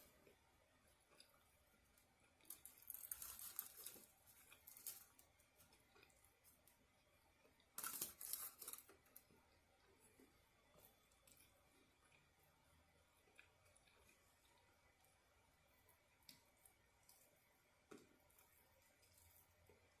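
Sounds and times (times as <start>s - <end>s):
food crackling while eaten: 0.0s - 20.0s.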